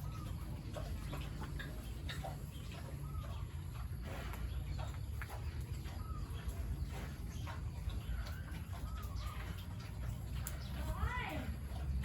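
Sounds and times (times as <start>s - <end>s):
farm animals calling: 0.0s - 12.0s.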